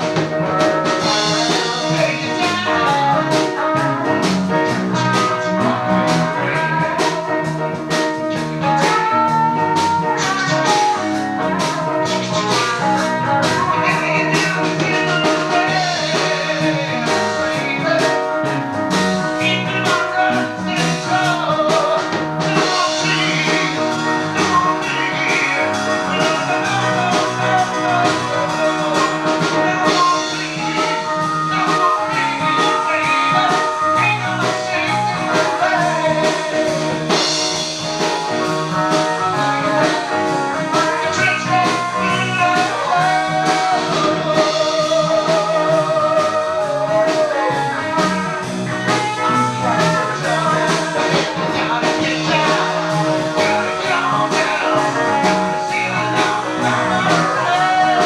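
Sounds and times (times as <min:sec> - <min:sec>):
guitar: 0:00.0 - 0:58.0
person singing: 0:00.0 - 0:58.0
steady drum beat: 0:00.0 - 0:58.0.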